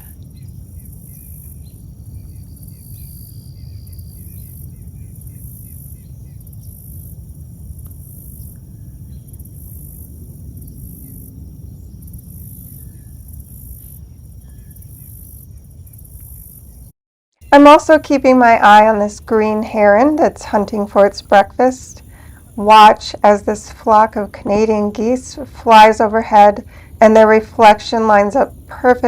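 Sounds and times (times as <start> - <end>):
insects trilling: 0.0 - 16.8, 17.4 - 29.0.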